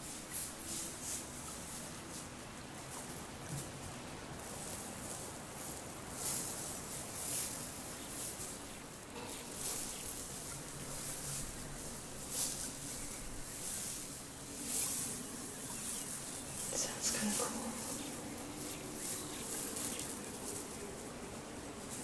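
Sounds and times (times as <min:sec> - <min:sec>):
crystals rattling in fabric pouch: 0:04.4 - 0:22.0.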